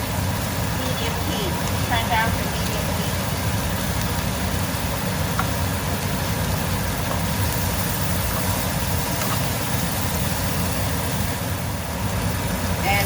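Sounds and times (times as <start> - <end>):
food frying sizzle: 0.0 - 13.0.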